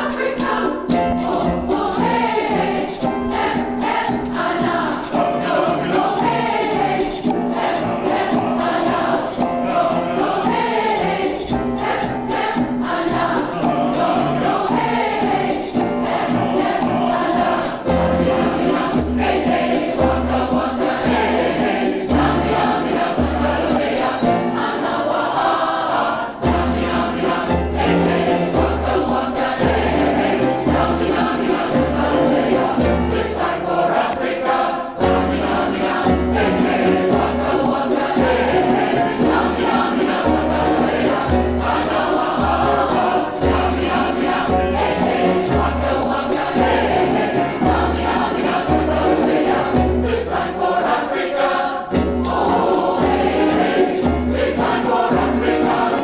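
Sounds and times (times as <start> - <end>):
quick percussion clicks: 0.0 - 24.4, 26.4 - 33.5, 35.0 - 49.8, 51.9 - 56.0
choir singing: 0.0 - 56.0.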